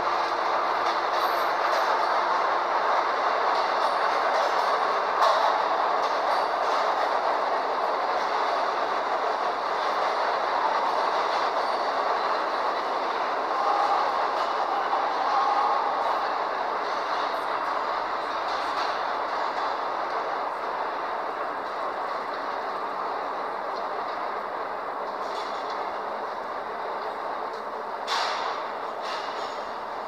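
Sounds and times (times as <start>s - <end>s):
subway train wheels on rails: 0.0s - 30.0s.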